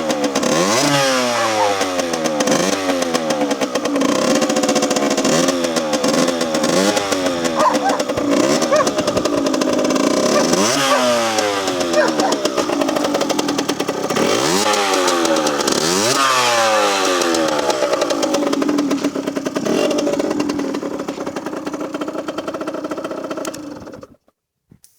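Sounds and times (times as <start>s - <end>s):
two-stroke motorcycle engine revving: 0.0s - 24.2s.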